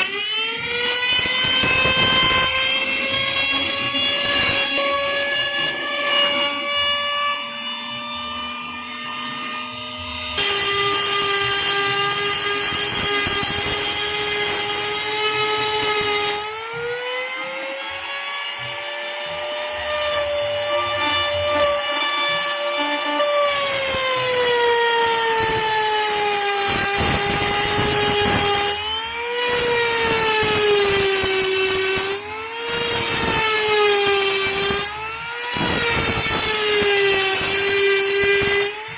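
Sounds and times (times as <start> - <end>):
router bit rasping through plywood: 0.0 - 38.9
wood router motor whine: 0.0 - 38.9.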